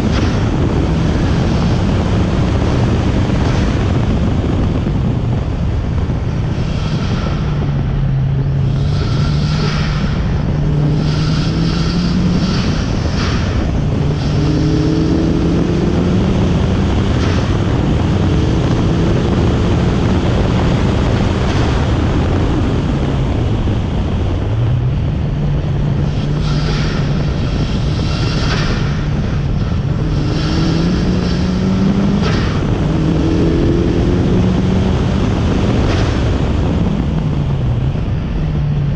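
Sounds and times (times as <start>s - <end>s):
car engine working under load: 0.0s - 38.9s.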